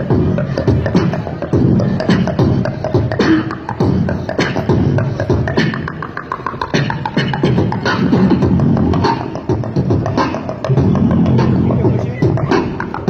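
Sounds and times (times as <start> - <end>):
beatboxing through loudspeaker: 0.0 - 13.0.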